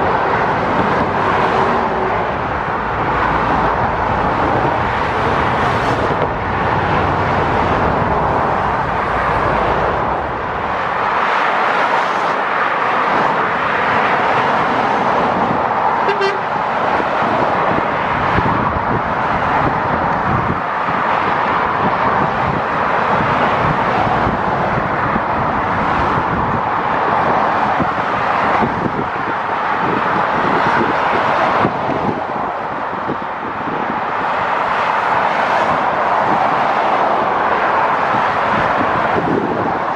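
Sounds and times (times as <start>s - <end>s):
passing road traffic: 0.0s - 39.9s.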